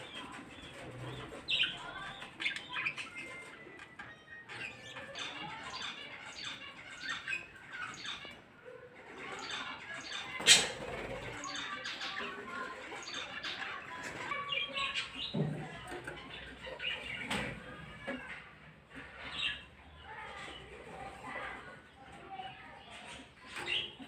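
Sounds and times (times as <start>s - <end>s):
birds chirping and squawking: 0.0s - 24.0s.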